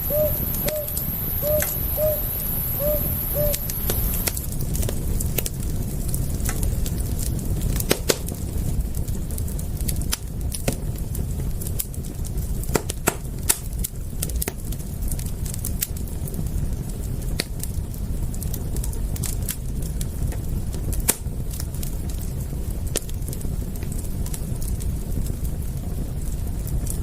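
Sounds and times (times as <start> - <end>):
low rumble of flame: 0.0 - 27.0
wood fire crackling: 0.0 - 27.0.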